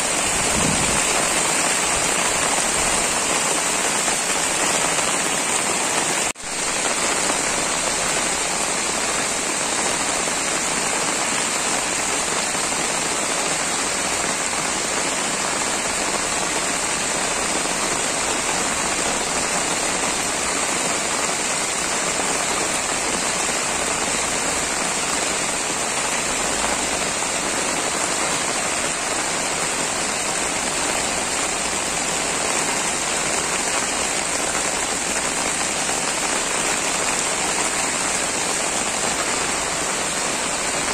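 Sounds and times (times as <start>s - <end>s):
heavy rain on a flooded road: 0.0s - 40.9s.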